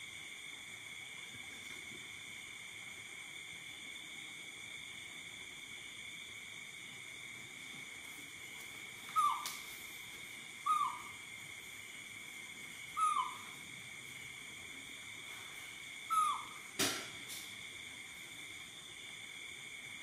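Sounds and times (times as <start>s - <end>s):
steady high hum: 0.0s - 20.0s.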